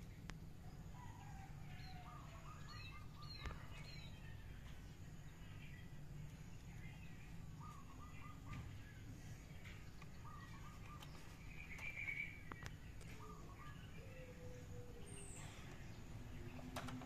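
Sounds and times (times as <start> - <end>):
steady low background noise: 0.0 - 17.0
birds chirping and whistling: 1.7 - 17.0.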